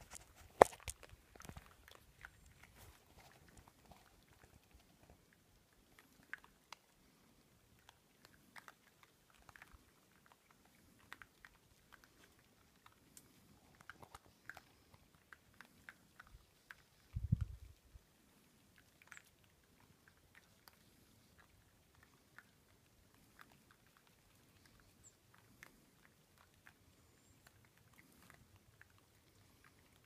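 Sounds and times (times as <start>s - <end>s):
piglets chewing feed: 0.0s - 30.0s.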